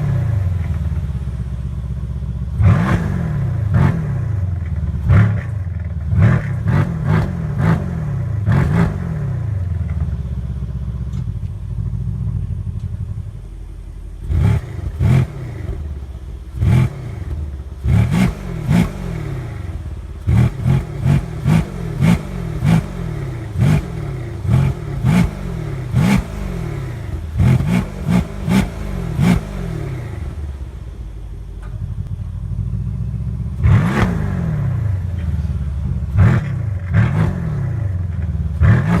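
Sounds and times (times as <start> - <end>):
car engine revving and idling: 0.0 - 39.0
exhaust cracks: 0.0 - 39.0.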